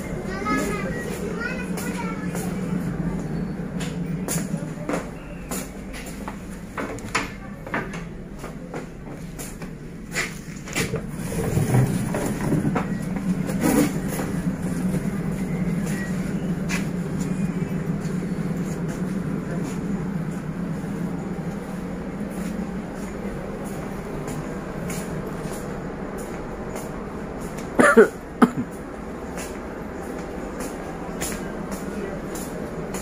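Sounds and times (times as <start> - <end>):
train coach low rumble: 0.0 - 33.0.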